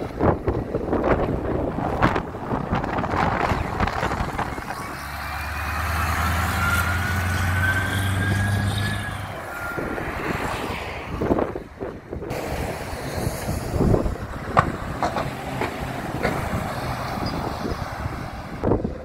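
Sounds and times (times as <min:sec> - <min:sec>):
truck engine passing: 0:00.0 - 0:19.0.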